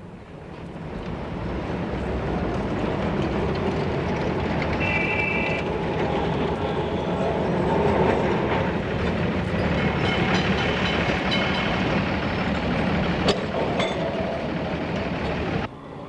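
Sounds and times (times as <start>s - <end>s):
tram wheels clattering on rails: 0.0s - 15.7s
street traffic: 0.0s - 16.0s.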